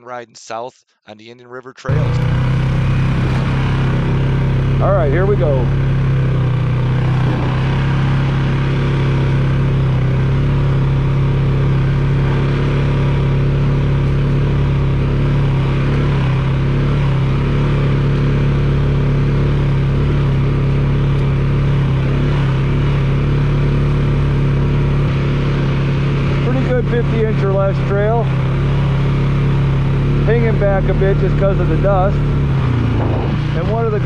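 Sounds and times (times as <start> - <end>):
atv engine running: 1.9 - 34.0.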